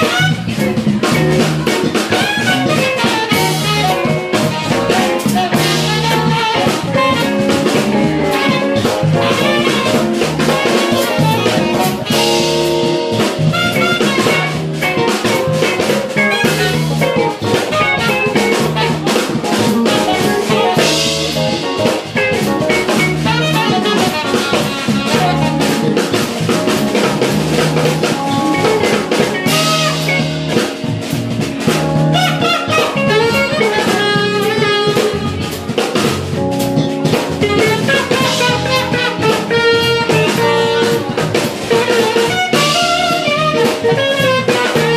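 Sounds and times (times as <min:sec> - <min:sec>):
drum kit: 0:00.0 - 0:44.9
electric bass: 0:00.0 - 0:44.9
electric guitar: 0:00.0 - 0:44.9
saxophone: 0:00.0 - 0:44.9.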